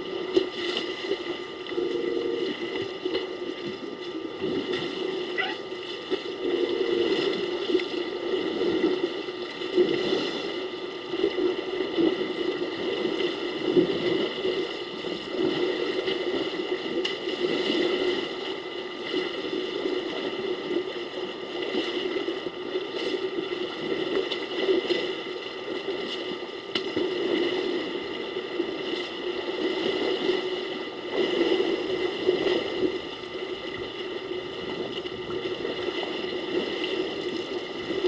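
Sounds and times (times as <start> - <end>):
steady hum: 0.0 - 38.0
water sloshing and splashing: 0.0 - 38.0.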